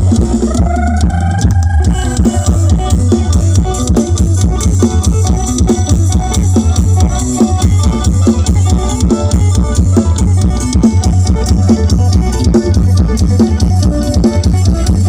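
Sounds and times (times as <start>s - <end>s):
drum kit beat: 0.0s - 15.0s
heavy bass: 0.0s - 15.0s
plucked string lead: 0.0s - 15.0s.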